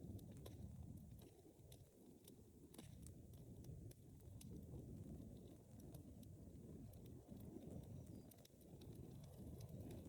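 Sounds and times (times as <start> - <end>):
low rumble of burning: 0.0 - 10.0
wood fire crackling: 0.0 - 10.0.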